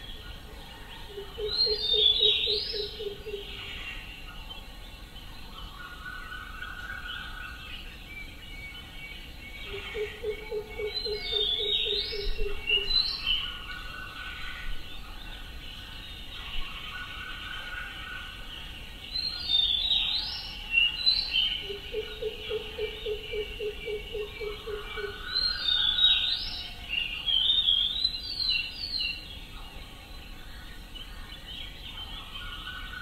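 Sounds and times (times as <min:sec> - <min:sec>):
wild birds chirping: 0:00.0 - 0:33.0.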